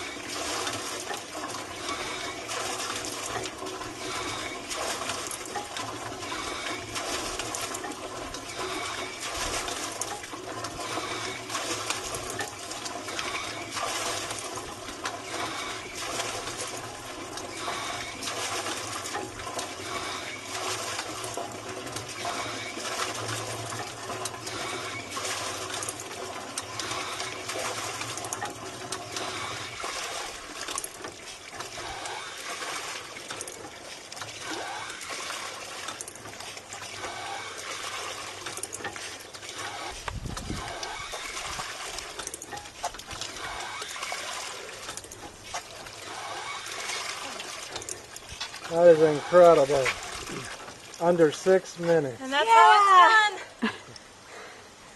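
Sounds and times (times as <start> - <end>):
water pouring into barrel: 0.0 - 54.5.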